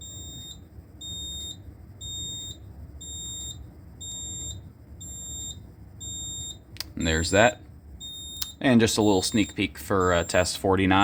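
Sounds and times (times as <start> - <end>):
alarm panel buzzer beeping: 0.0 - 11.0.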